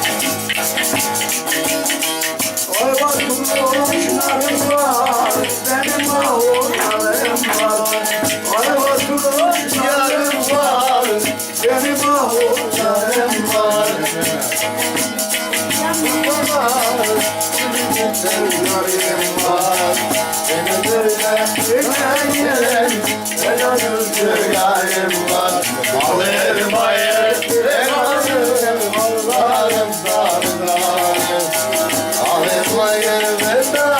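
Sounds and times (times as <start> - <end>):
jingling rattling percussion: 0.0 - 33.9
wavering folk melody: 0.0 - 33.9.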